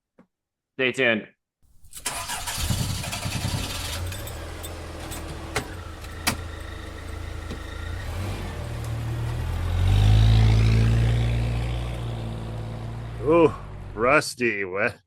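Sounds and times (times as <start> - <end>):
car engine idling and revving: 1.7 - 14.0.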